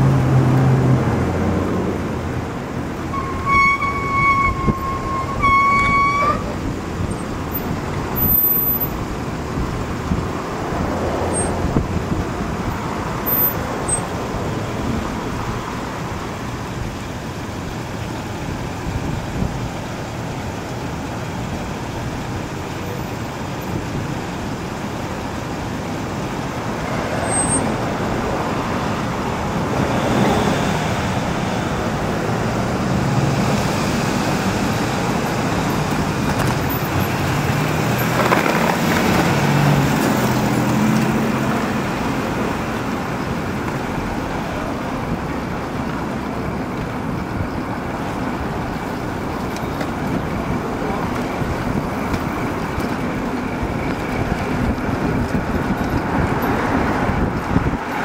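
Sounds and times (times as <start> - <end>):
city street traffic: 0.0 - 58.0
vehicles passing: 0.0 - 58.0.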